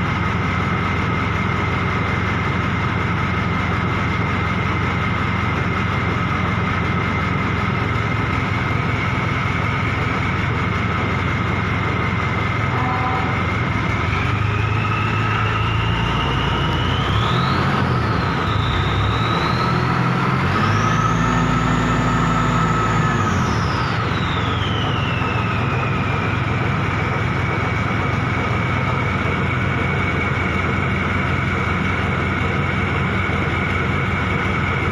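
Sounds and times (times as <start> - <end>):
machine humming and whining: 0.0 - 34.9.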